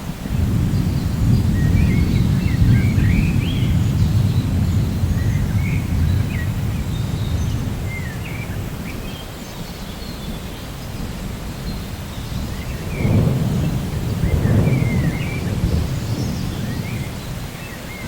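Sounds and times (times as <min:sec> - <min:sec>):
thunder rumbling: 0:00.0 - 0:09.1, 0:11.0 - 0:18.0
birds chirping: 0:00.3 - 0:18.0.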